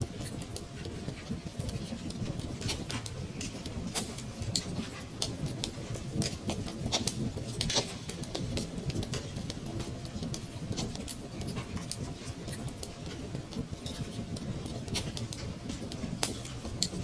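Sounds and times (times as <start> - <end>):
fire popping and snapping: 0.0 - 17.0
low rumble of burning fire: 0.0 - 17.0.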